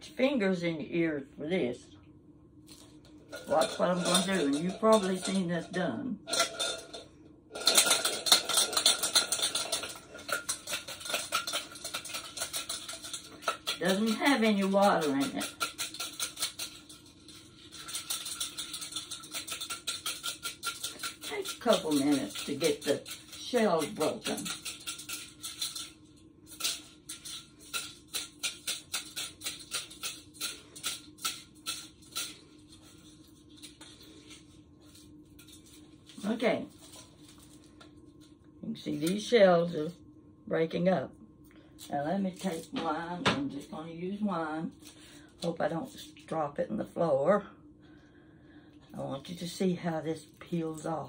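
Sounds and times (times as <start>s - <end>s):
eggs rattling in a steel saucepan: 2.7s - 39.8s, 41.8s - 47.0s, 48.8s - 51.0s.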